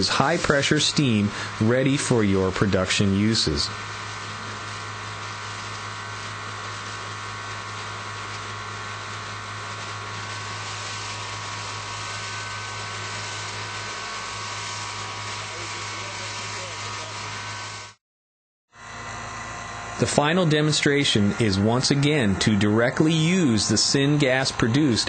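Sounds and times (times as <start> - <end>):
steam hissing from pipe: 0.0 - 18.0, 20.2 - 25.0.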